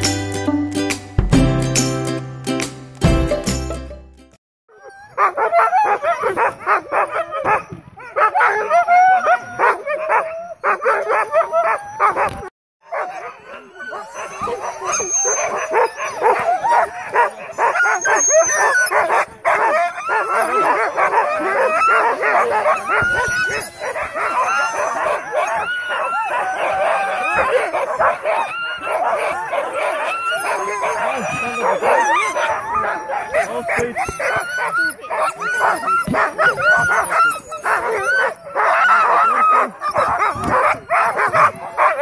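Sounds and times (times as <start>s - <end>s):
huskies barking: 5.1s - 42.0s.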